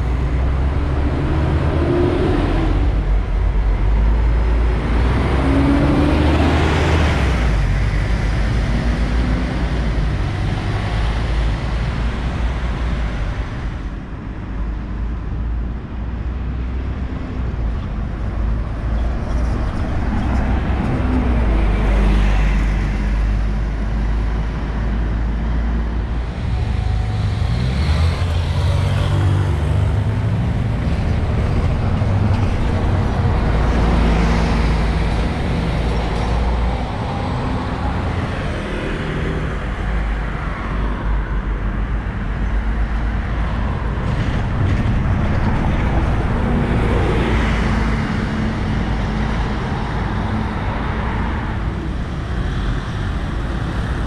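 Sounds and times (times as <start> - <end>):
bus engine pulling away: 0.0 - 54.0
cars passing: 0.0 - 54.0.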